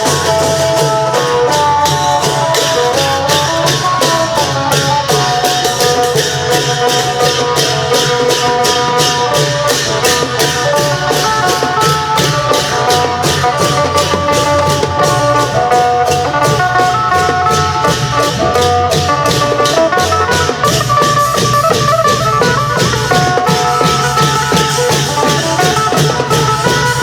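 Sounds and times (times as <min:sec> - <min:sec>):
cymbals: 0:00.0 - 0:27.0
drums beating: 0:00.0 - 0:27.0.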